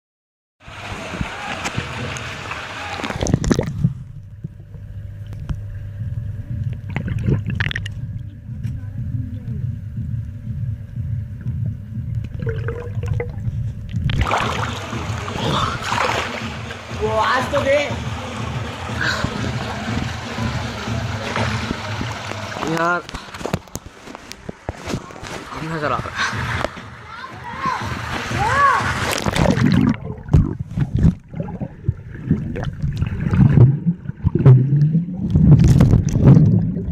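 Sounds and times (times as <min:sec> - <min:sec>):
water splashing: 0:00.6 - 0:05.7, 0:06.6 - 0:08.3, 0:12.3 - 0:36.9
muffled underwater rumble: 0:00.6 - 0:36.9.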